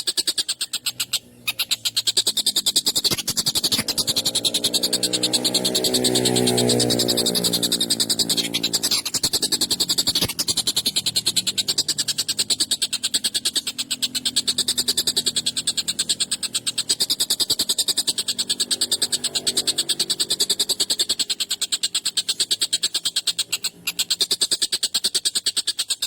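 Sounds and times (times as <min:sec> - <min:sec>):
bird call harsh rattle: 0:00.0 - 0:26.0.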